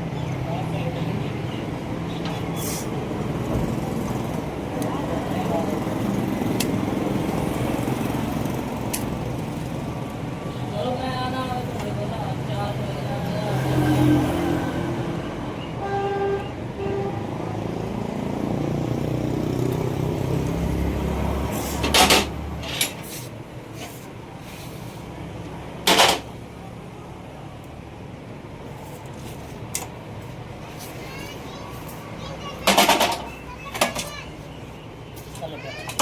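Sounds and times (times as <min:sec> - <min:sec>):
motor traffic: 0:00.0 - 0:36.0.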